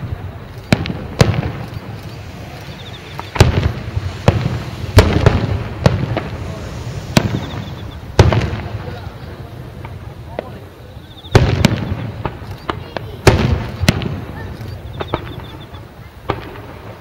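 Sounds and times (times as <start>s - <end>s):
firework shells booming: 0.0s - 17.0s.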